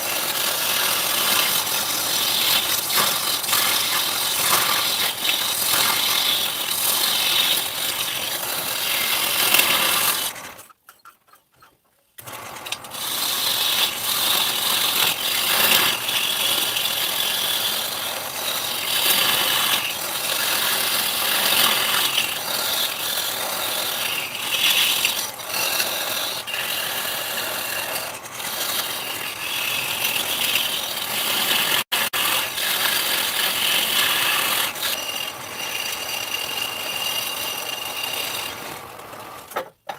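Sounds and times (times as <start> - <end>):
machine rasping wood: 0.0 - 39.9.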